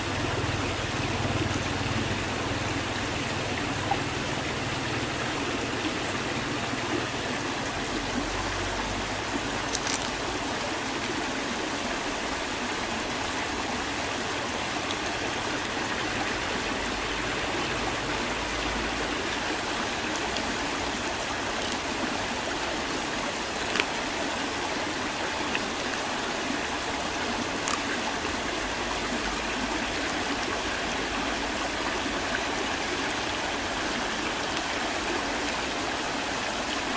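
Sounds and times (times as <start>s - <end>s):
stream rushing over stones: 0.0s - 36.9s.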